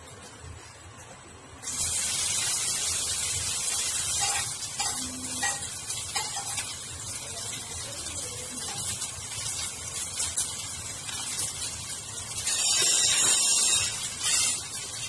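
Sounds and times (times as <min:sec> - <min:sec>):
vegetables sizzling in hot oil: 0:01.5 - 0:15.0.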